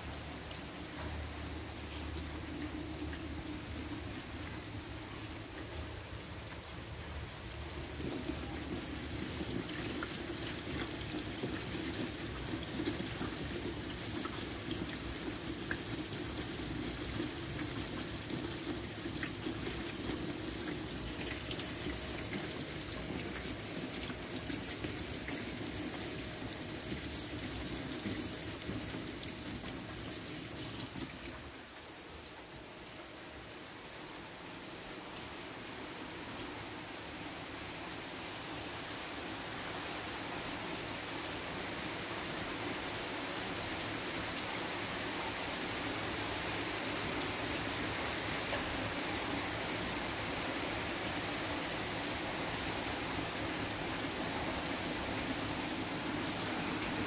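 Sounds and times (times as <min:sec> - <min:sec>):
rain falling on pavement and puddles: 0:00.0 - 0:57.0.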